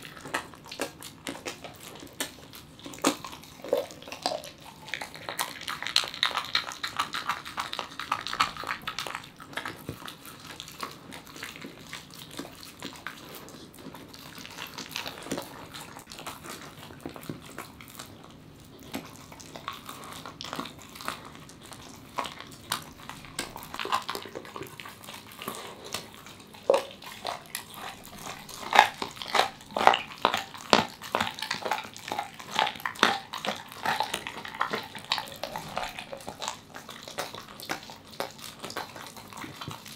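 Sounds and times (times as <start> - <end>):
dog chewing raw meat: 0.0 - 39.9.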